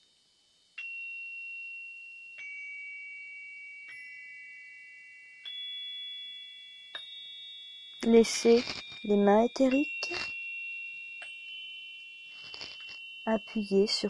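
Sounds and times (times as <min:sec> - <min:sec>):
high metal chimes ringing: 0:00.8 - 0:14.0.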